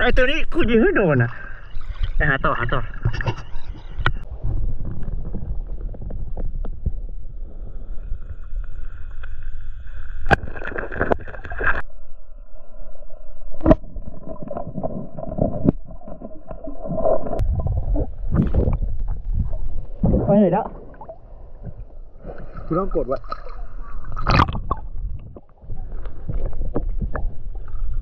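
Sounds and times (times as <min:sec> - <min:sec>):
underwater sloshing and bubbling: 0:01.0 - 0:28.0.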